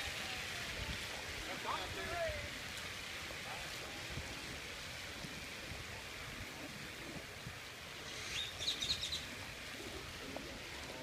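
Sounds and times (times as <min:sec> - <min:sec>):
wet outdoor background noise: 0:00.0 - 0:11.0.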